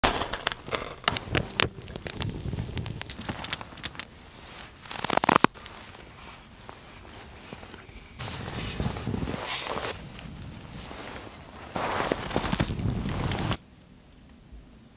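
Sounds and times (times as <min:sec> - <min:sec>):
small fire crackling and popping: 0:00.0 - 0:14.9.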